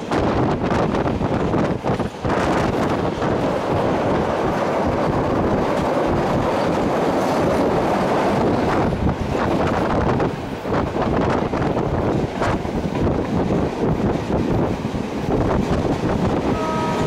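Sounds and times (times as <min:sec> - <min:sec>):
train wheels rumbling on rails: 0:00.0 - 0:17.0
wind noise on microphone: 0:00.0 - 0:17.0.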